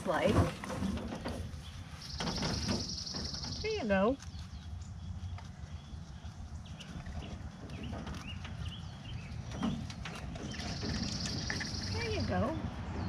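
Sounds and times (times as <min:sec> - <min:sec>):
rabbits rustling and clicking: 0:00.0 - 0:12.6
low outdoor rumble: 0:00.0 - 0:13.0.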